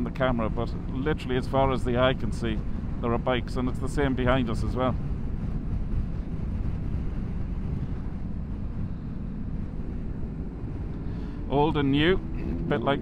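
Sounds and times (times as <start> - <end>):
motorcycle engine and road rumble: 0.0 - 13.0
wind rushing over microphone: 0.0 - 13.0.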